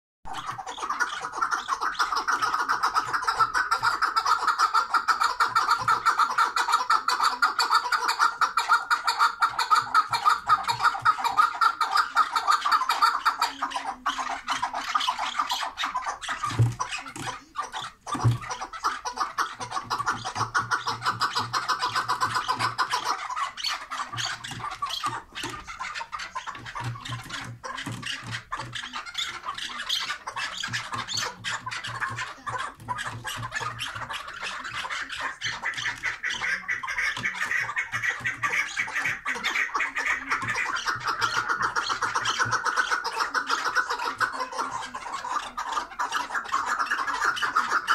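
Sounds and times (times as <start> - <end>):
partridges clucking: 0.3 - 47.9.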